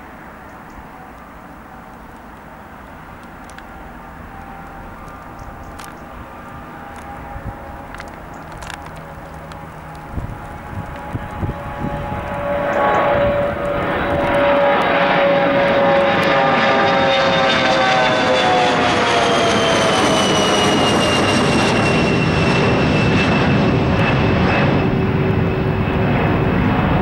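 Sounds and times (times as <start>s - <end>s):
jet roaring overhead: 0.0s - 27.0s.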